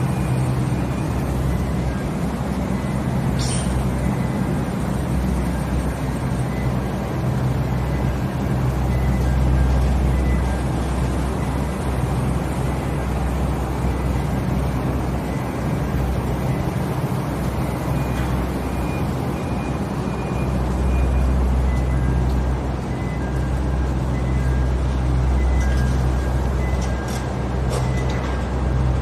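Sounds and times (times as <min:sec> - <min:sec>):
continuous noise wash: 0:00.0 - 0:29.0
low machinery hum: 0:00.0 - 0:29.0.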